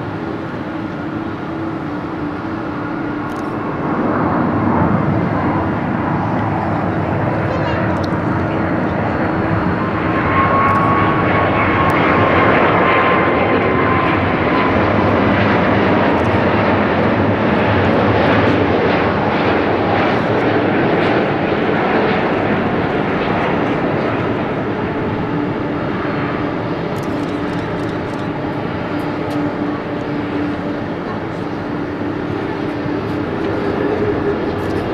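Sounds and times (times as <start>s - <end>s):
jet engines roaring past: 0.0s - 34.9s.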